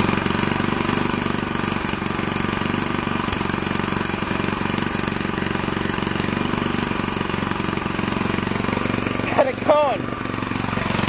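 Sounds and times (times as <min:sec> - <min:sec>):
single-cylinder engine running: 0:00.0 - 0:11.0.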